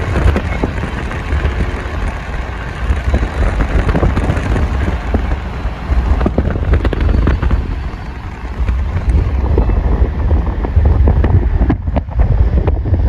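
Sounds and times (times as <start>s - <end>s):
car road noise rumble: 0.0s - 13.0s
wind buffeting microphone: 0.0s - 13.0s.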